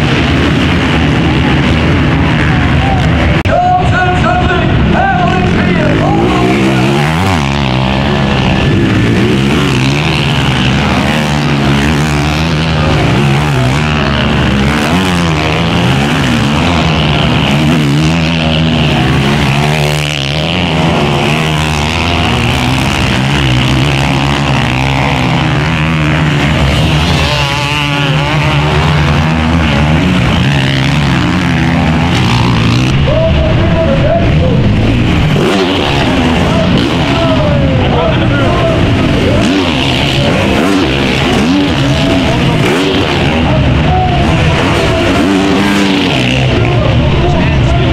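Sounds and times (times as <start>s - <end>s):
motocross bike engines revving: 0.0s - 47.9s.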